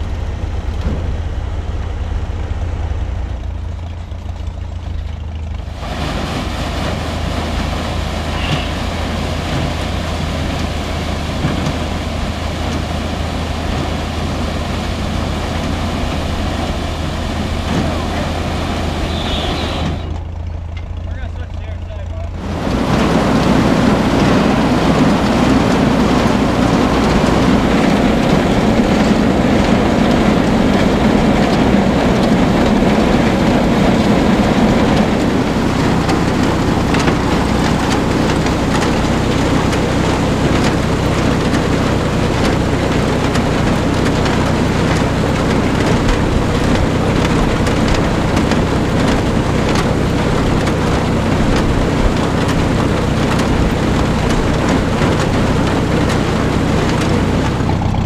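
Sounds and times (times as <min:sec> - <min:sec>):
bale elevator rattling and clanking: 0:00.0 - 0:19.0, 0:19.8 - 0:58.0
tractor engine running: 0:00.0 - 0:58.0.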